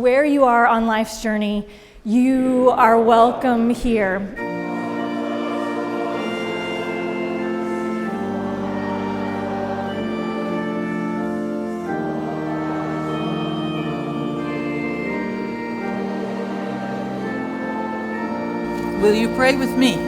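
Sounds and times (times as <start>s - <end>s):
organ playing sustained chords: 2.8s - 20.0s.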